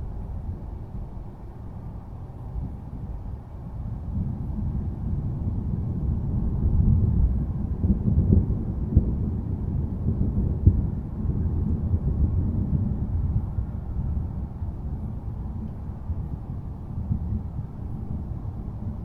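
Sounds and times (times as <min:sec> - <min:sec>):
low thunder rumbling: 0:00.0 - 0:19.0.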